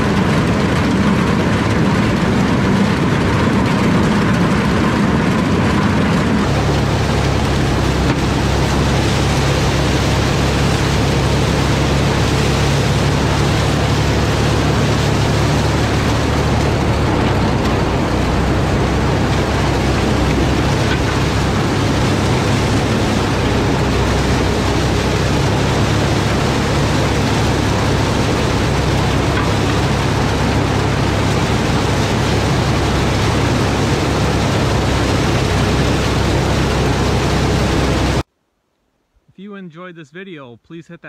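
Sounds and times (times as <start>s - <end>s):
corn picker machine noise: 0.0s - 38.3s
tractor diesel engine running: 0.0s - 38.3s.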